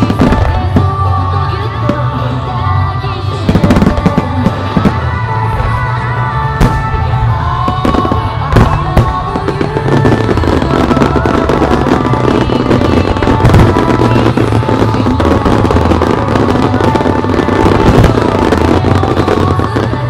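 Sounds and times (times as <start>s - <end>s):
fireworks bangs: 0.0s - 1.1s, 3.4s - 20.0s
fireworks crackling: 0.0s - 2.4s, 3.2s - 20.0s
loud music: 0.0s - 20.0s.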